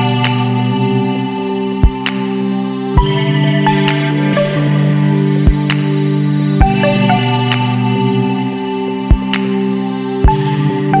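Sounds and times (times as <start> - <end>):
electronic music with synth chords: 0.0 - 11.0.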